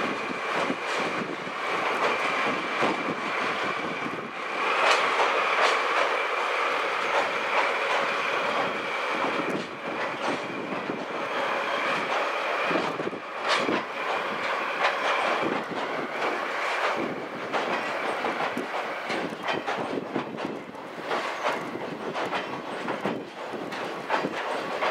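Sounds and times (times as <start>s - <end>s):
train wheels clicking over rail joints: 0.0s - 24.9s.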